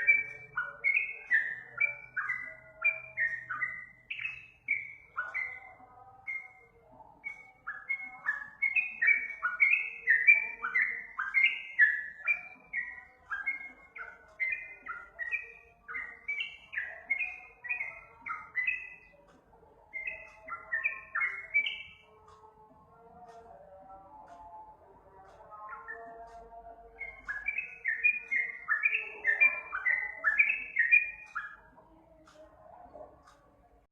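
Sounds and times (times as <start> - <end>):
bulbul chirping song: 0.0 - 33.9.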